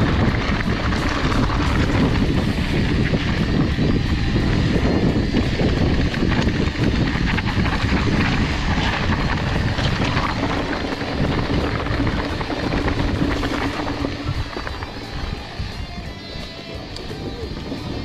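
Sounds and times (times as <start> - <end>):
tyres rumbling over dirt: 0.0 - 18.0
wind rush on microphone: 0.0 - 18.0.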